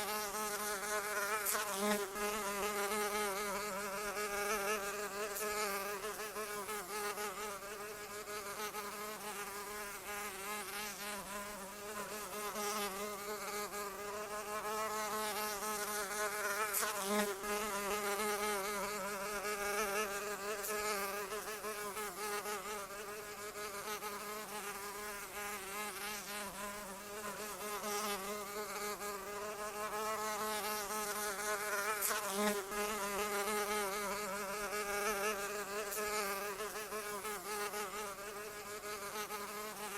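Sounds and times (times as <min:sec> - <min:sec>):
insect wings buzzing: 0:00.0 - 0:39.9.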